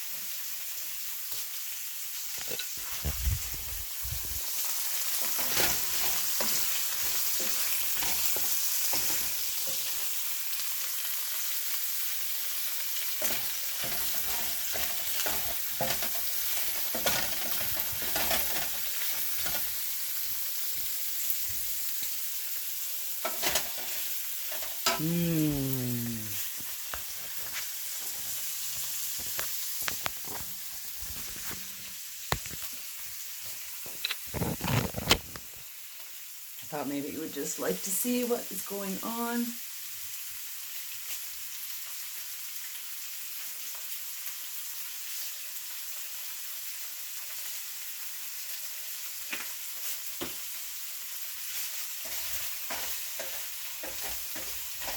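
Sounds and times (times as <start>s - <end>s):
food sizzling in a hot pan: 0.0s - 54.9s.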